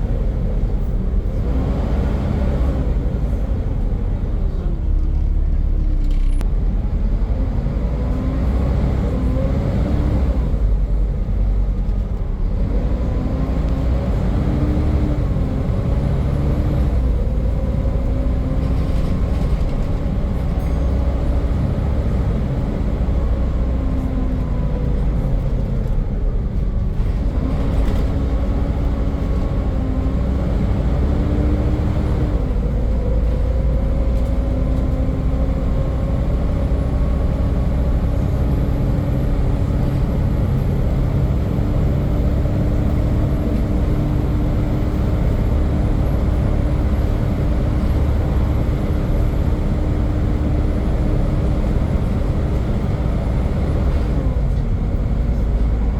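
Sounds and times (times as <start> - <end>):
bus engine rumble: 0.0 - 55.9.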